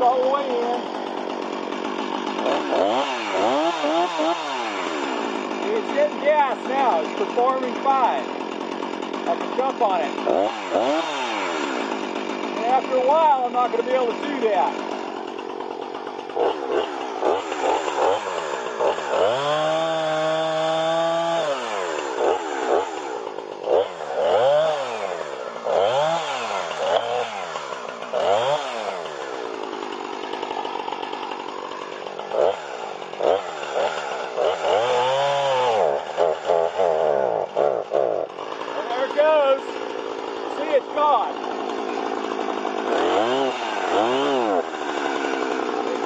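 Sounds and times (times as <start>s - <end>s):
chainsaw revving: 0.0s - 46.0s.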